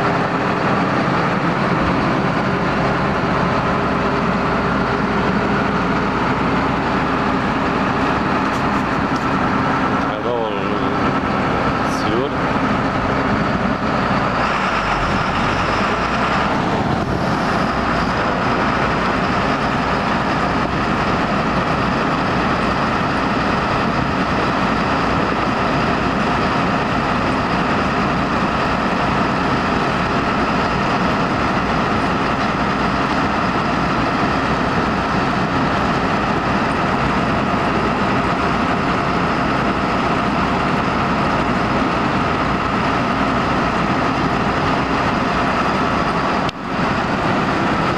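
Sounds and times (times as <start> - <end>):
combine harvester engine drone: 0.0 - 47.9
steady machine whine: 0.0 - 47.9.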